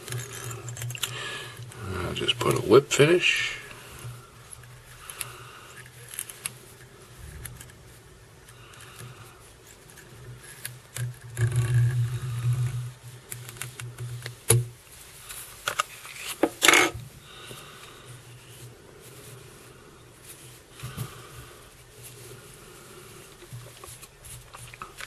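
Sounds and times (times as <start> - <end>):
clicks and rustles of handling: 0.0 - 25.0.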